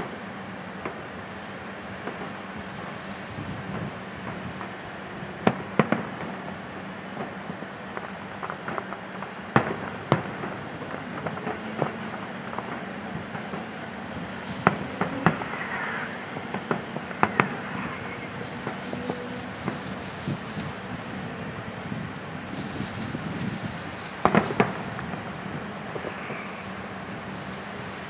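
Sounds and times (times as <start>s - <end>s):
fireworks bangs: 0.8s - 28.0s
fireworks pops and crackles: 0.8s - 28.0s.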